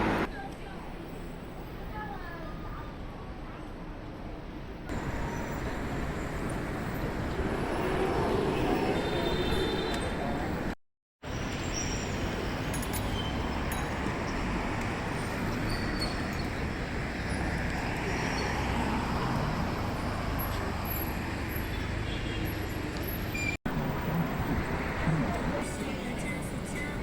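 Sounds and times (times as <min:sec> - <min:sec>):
passing traffic rumble: 0:00.0 - 0:00.3, 0:04.8 - 0:27.0.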